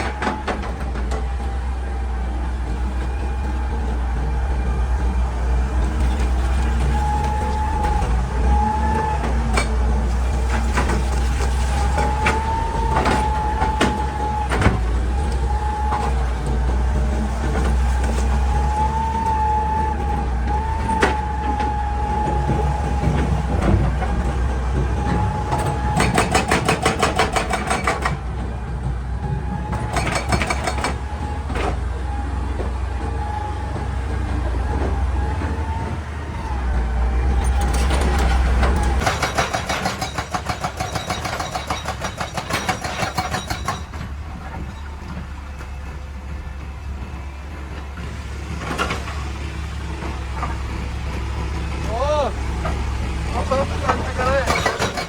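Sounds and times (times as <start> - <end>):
diesel engine running: 0.0 - 55.0
hydraulic whine: 0.0 - 55.0.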